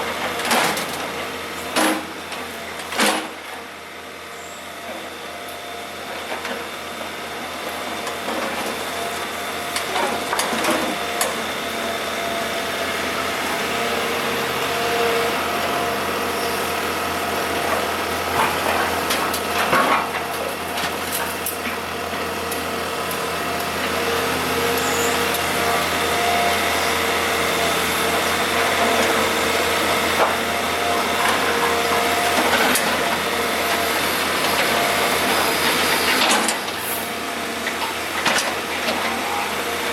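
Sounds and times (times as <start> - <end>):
excavator diesel engine and hydraulics: 0.0 - 39.9.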